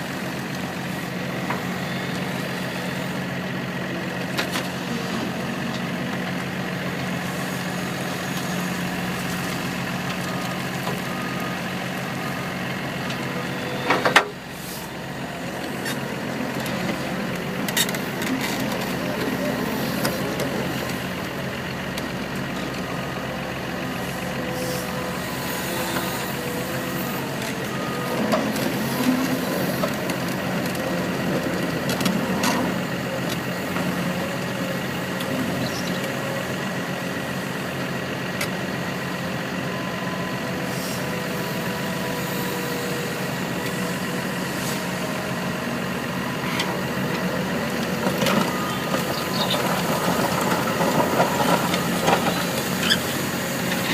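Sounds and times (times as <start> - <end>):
excavator diesel engine under load: 0.0 - 53.9.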